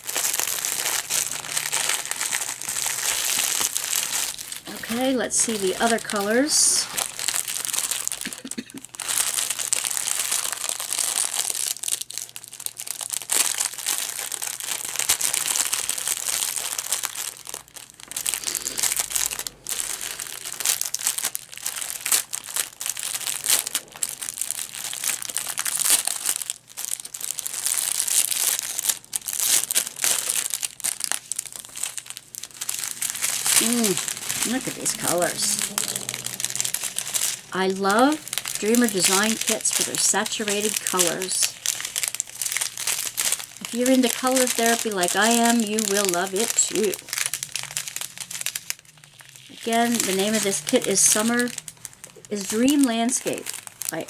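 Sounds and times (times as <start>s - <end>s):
plastic wrap crinkling: 0.0s - 54.0s.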